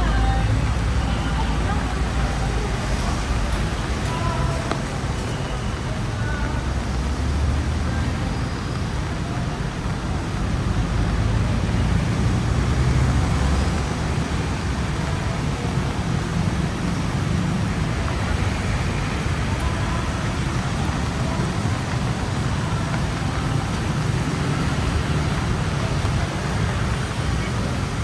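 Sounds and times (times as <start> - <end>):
low engine rumble: 0.0 - 28.0
vehicles passing: 0.0 - 28.0.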